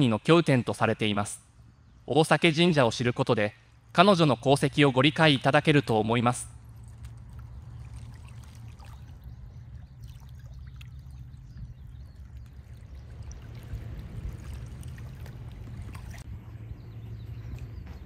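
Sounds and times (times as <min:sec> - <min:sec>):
faint water trickling and lapping: 0:03.4 - 0:18.0
steady low rumble: 0:03.5 - 0:18.0.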